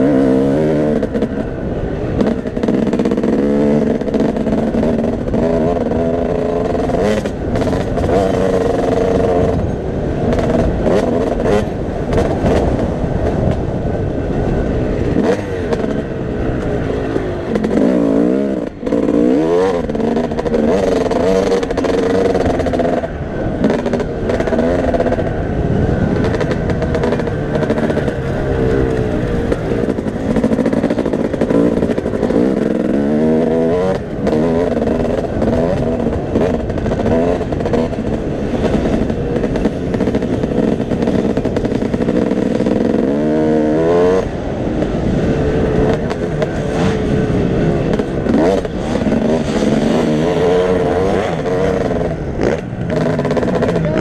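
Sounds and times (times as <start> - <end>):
motocross bike engine revving: 0.0 - 54.0
wind rumble on microphone: 0.0 - 54.0.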